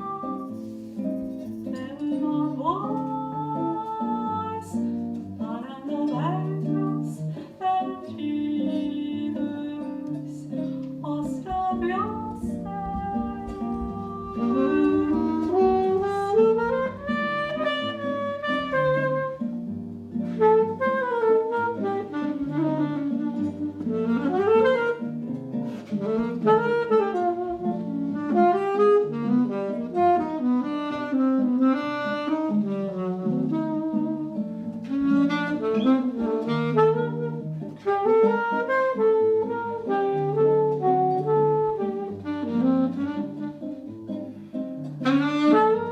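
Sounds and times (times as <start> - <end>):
guitar: 0.0 - 45.9
saxophone melody: 0.0 - 45.9.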